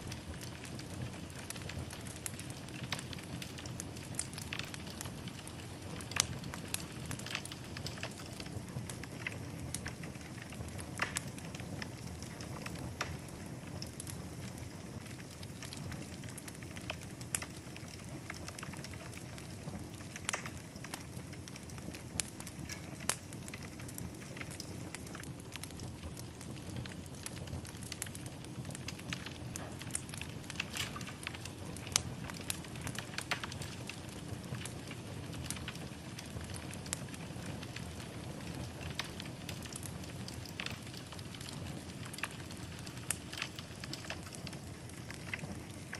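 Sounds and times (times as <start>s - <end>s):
fire rumbling: 0.0s - 45.9s
wood fire pops and snaps: 0.0s - 45.9s.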